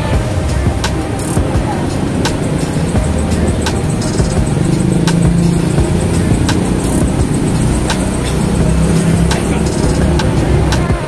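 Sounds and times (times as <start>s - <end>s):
cars and motorcycles passing: 0.0s - 11.0s.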